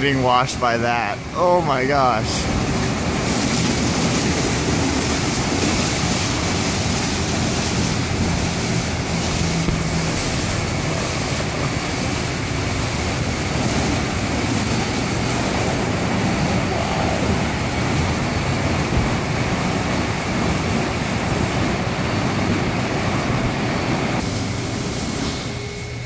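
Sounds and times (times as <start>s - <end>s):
water spray rushing: 0.0s - 25.6s
low machine hum: 0.0s - 26.0s.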